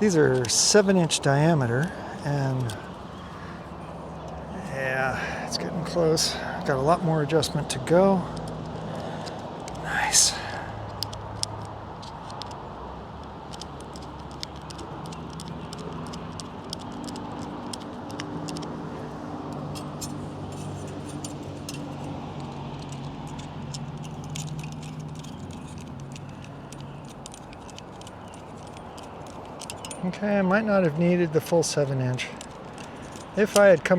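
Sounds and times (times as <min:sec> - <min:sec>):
hose clamp screw ticking: 0:00.0 - 0:33.9.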